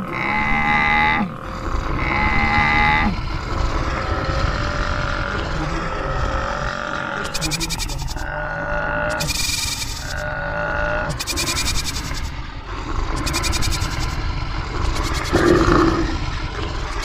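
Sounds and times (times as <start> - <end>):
animal calls: 0.0 - 17.0
rumble of many hooves: 0.0 - 17.0.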